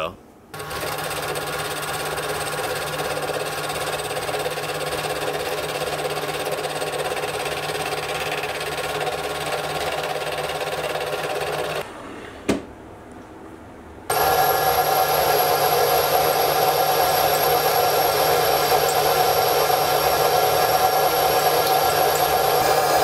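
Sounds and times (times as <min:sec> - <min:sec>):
metal lathe cutting steel: 0:00.6 - 0:11.8, 0:14.1 - 0:23.0.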